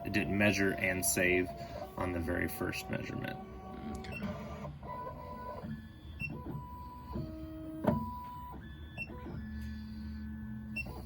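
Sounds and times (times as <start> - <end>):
key cutting machine motors whining: 0.0 - 11.0.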